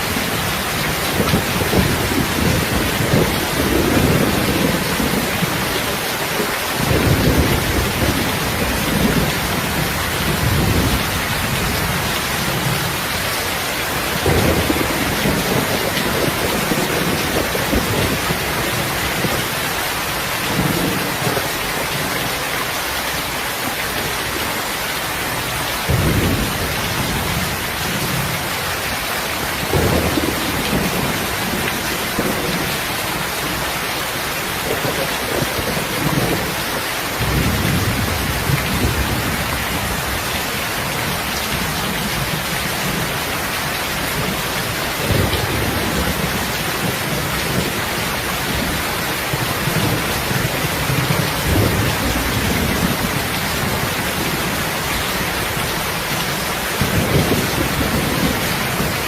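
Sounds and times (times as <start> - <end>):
dense rain hiss: 0.0 - 59.0.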